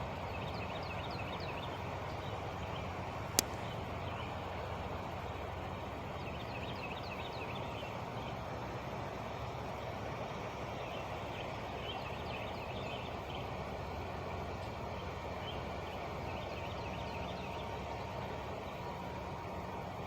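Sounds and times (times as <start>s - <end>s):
truck engine idling: 0.0s - 20.0s
birds chirping: 0.1s - 8.5s, 10.5s - 19.8s.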